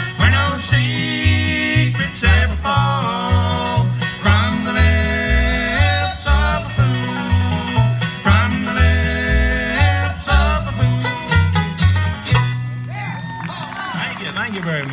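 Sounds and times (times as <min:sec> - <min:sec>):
banjo: 0:00.0 - 0:13.0
low bass notes: 0:00.0 - 0:13.3
guitar: 0:00.0 - 0:14.9.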